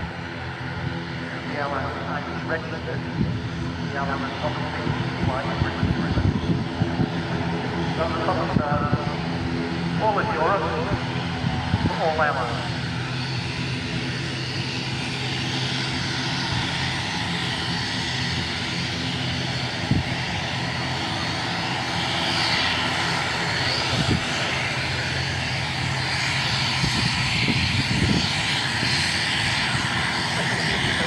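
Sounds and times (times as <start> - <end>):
turboprop engines droning: 0.0 - 31.0.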